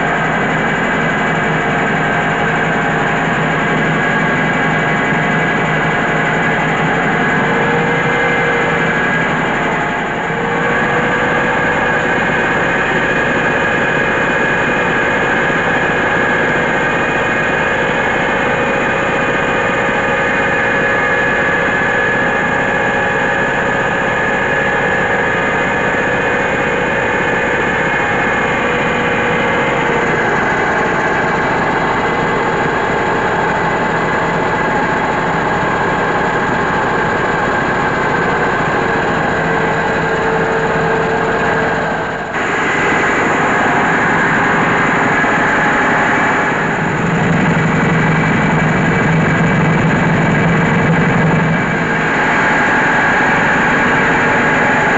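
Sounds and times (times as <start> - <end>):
rice mill machine drone: 0.0 - 54.9.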